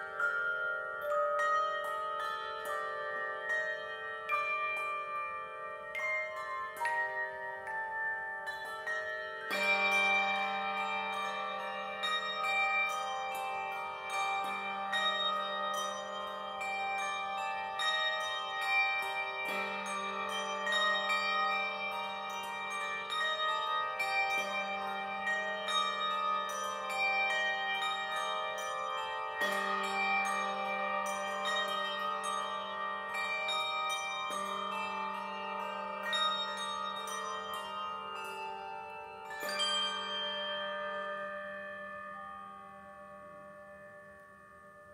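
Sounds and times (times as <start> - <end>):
handbells ringing: 0.0 - 44.9.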